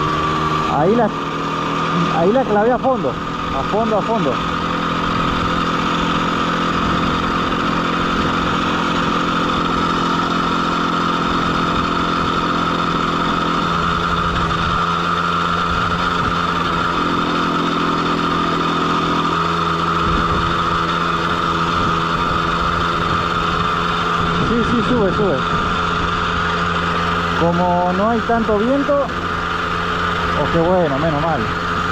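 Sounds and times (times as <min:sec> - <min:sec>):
motorcycle engine at full throttle: 0:00.0 - 0:31.9.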